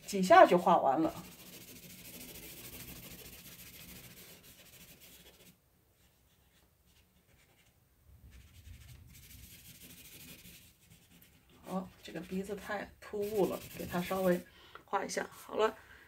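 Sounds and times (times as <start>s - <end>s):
faint rubbing on paper: 0.0s - 14.5s.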